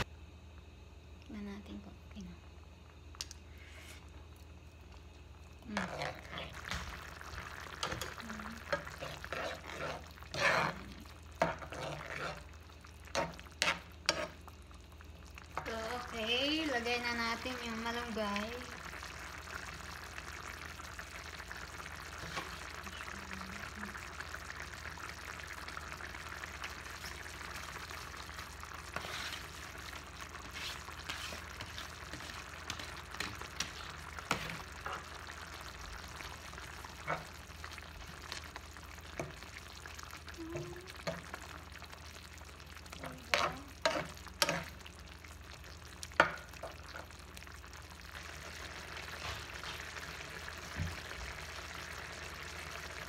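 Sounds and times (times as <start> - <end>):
sauce sizzling in a pan: 3.0 - 53.0.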